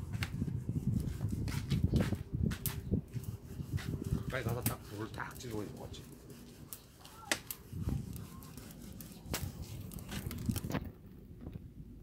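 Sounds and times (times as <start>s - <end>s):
wood fire crackling and popping: 1.7s - 11.5s.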